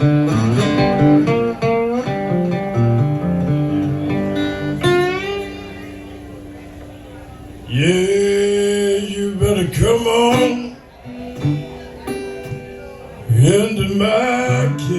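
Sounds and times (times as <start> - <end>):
acoustic blues guitar: 0.0 - 14.9.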